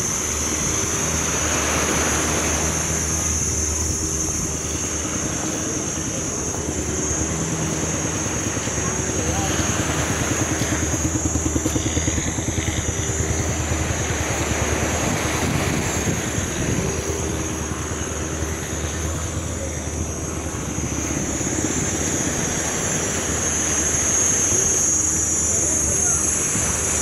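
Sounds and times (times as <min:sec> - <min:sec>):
combustion engine running: 0:00.0 - 0:27.0
high-pitched whine: 0:00.0 - 0:27.0.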